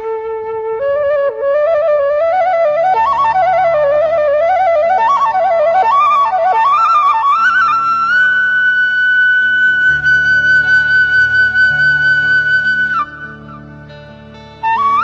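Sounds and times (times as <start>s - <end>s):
flute melody: 0.0s - 15.0s
low held accompanying tones: 0.0s - 15.0s.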